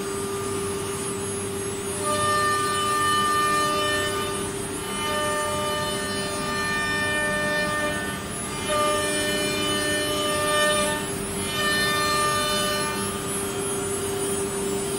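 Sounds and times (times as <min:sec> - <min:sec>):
router spindle whining cutting wood: 0:00.0 - 0:14.8.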